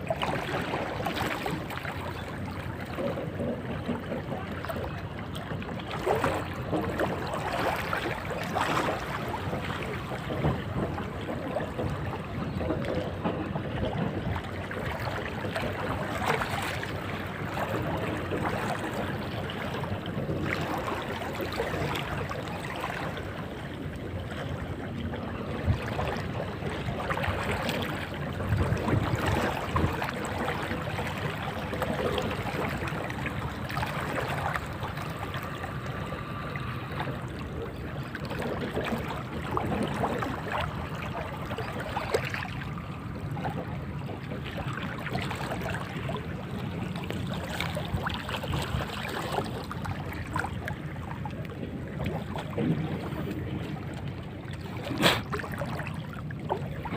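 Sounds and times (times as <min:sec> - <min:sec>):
seawater lapping: 0:00.0 - 0:56.9.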